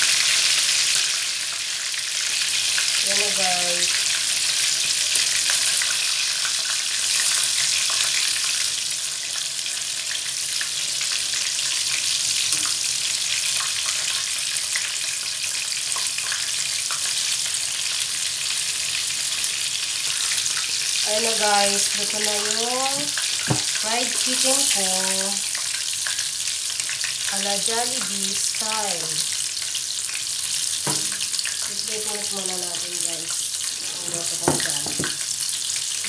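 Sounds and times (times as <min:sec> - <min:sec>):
chicken frying in hot oil: 0:00.0 - 0:36.0.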